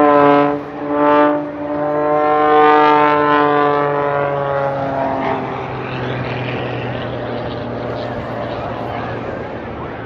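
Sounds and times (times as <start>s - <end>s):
plane engine flying overhead: 0.0s - 10.0s.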